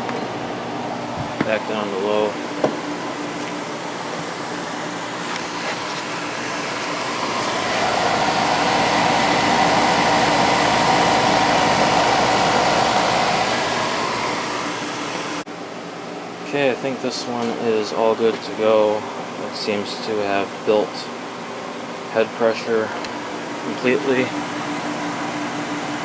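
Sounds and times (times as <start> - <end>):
air conditioner fan rush: 0.0 - 26.0
compressor hum: 0.0 - 26.0.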